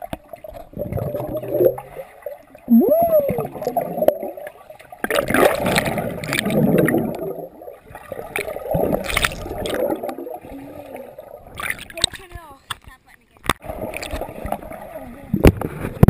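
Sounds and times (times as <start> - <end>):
swimmer's air bubbles: 0.0 - 12.2, 13.6 - 16.0
underwater bubbling and gurgling: 0.0 - 16.0.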